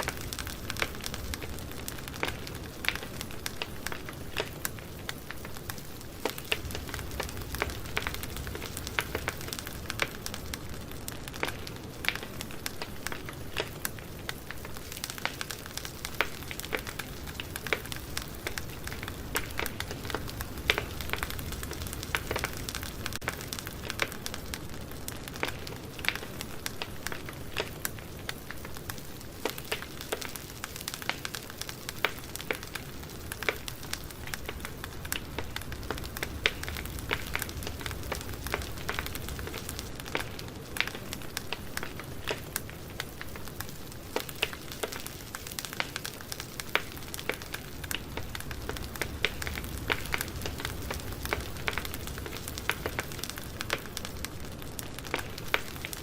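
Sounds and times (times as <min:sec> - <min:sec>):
burning wood crackling and popping: 0:00.0 - 0:56.0
campfire rumble and hiss: 0:00.0 - 0:56.0.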